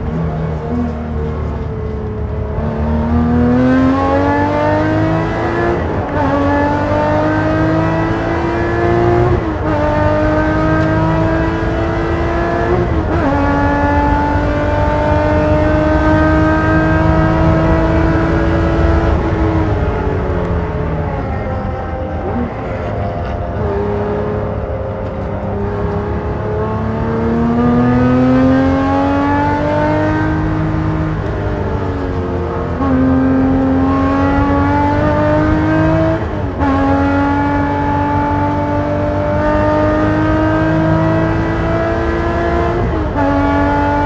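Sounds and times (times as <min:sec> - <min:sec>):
race car engine accelerating: 0:00.0 - 0:44.0.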